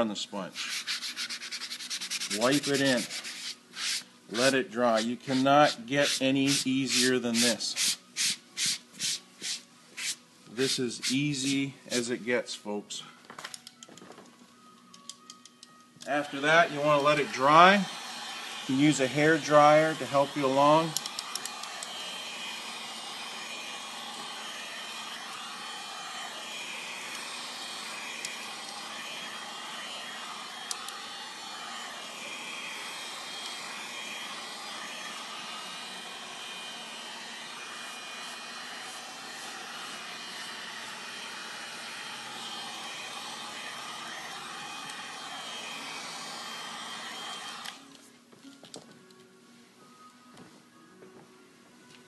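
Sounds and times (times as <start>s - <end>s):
hair dryer running: 1.4s - 11.6s, 16.0s - 48.0s.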